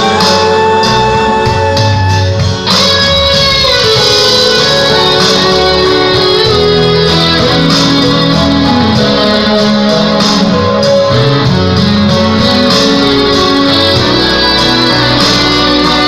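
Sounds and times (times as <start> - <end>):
instrumental music with guitar: 0.0 - 16.0.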